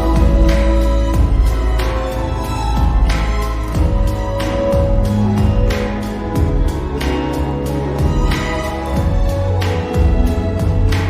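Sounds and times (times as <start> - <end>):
reverberant instrumental pop music: 0.0 - 11.0.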